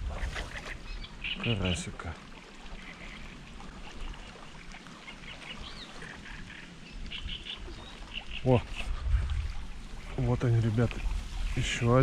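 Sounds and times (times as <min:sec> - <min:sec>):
water rushing in channel: 0:00.0 - 0:12.0.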